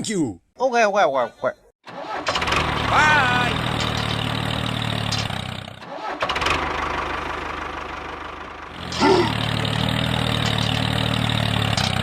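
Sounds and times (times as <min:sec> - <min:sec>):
small engine idling: 0:02.2 - 0:12.0.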